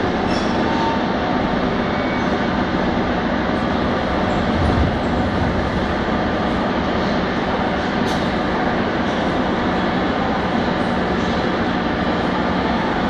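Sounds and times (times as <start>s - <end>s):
metro train rumbling to a stop: 0.0s - 13.0s.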